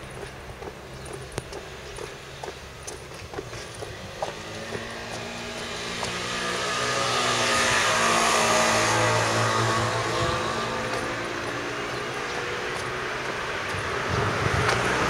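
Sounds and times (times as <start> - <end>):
footsteps: 0.0 - 15.0
vehicle passing: 0.0 - 15.0.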